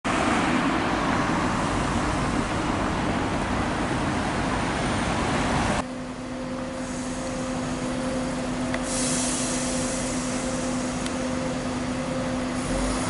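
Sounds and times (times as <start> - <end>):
road traffic rushing: 0.1 - 13.0.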